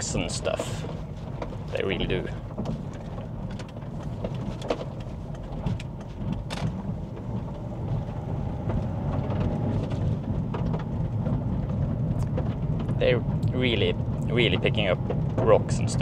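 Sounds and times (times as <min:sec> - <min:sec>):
tyre and road rumble: 0:00.0 - 0:16.0.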